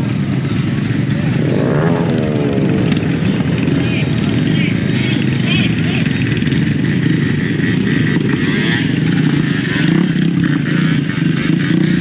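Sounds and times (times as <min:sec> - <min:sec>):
motorcycle engine running: 0:00.0 - 0:12.0
rushing noise: 0:00.0 - 0:12.0.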